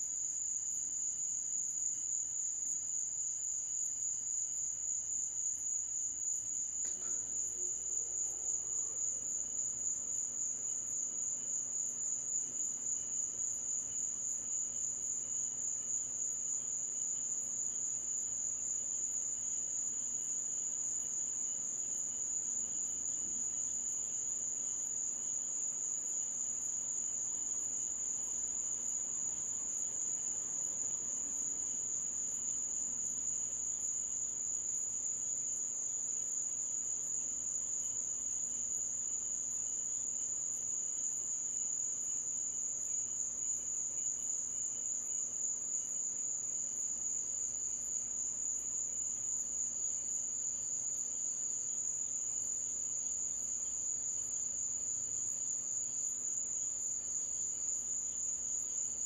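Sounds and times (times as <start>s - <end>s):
insects trilling: 0.2s - 59.0s.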